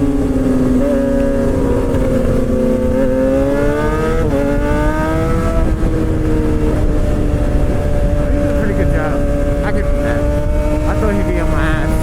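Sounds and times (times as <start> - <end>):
motorcycle engine revving hard: 0.0 - 12.0
wind rumble: 0.0 - 12.0.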